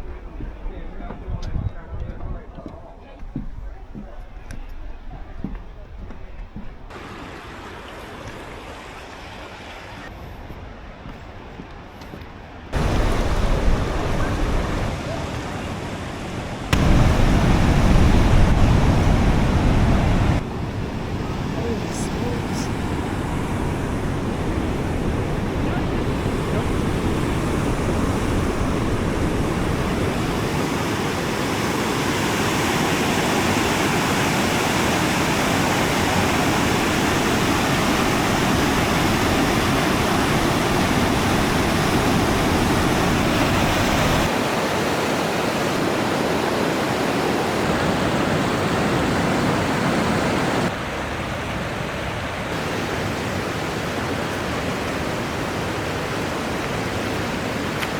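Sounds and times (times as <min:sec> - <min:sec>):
river rapids rushing: 0:06.9 - 0:10.1, 0:12.8 - 0:57.9.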